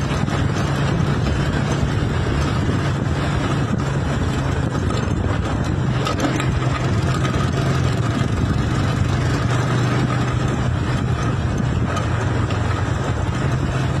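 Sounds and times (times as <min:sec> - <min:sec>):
road noise: 0:00.0 - 0:14.0
vehicle engine humming: 0:00.0 - 0:14.0.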